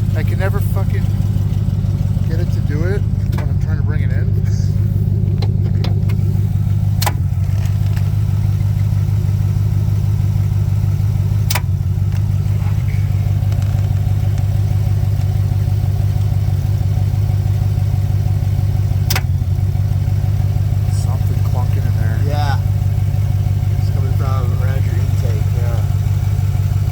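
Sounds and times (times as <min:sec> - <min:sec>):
pickup engine idling: 0:00.0 - 0:26.9.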